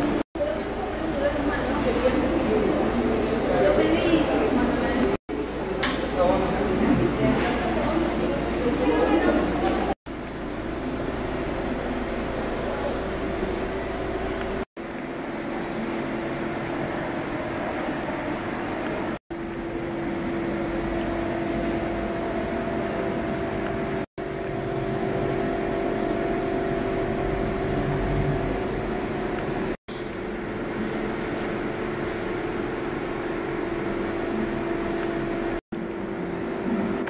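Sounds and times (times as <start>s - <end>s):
subway platform hum and rumble: 0.0s - 37.0s.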